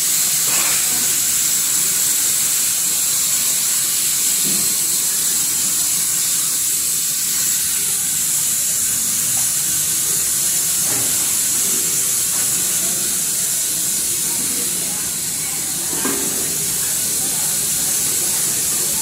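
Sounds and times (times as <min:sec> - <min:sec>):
machinery hissing: 0:00.0 - 0:19.0.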